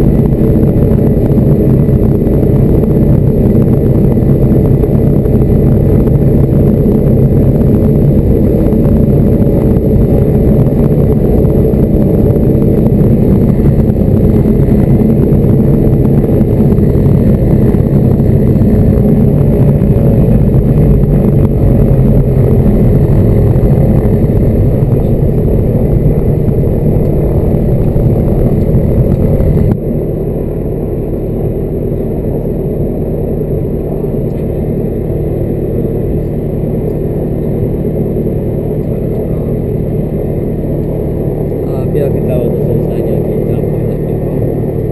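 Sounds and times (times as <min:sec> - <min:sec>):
aircraft engine and propeller: 0:00.0 - 0:44.9.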